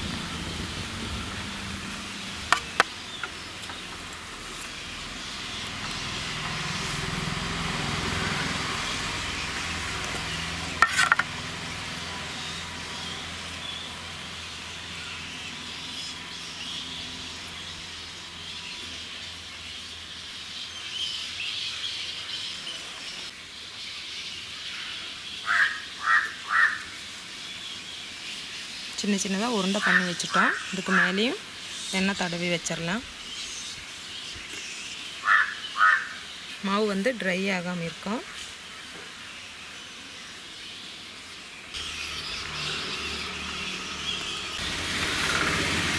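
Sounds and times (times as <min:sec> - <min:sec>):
outdoor background hiss: 0:00.0 - 0:45.9.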